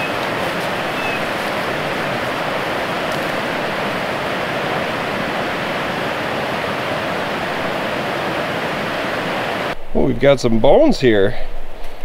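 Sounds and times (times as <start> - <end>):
river water rushing over rapids: 0.0 - 9.8.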